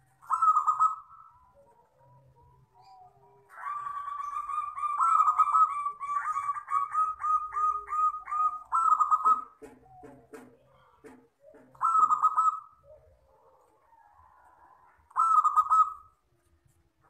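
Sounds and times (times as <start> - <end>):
dove cooing: 0.0 - 16.3.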